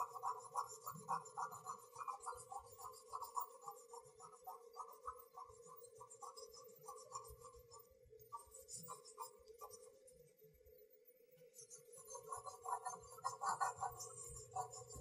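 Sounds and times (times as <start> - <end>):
pencil scratching on paper: 0.0 - 10.0, 11.6 - 15.0.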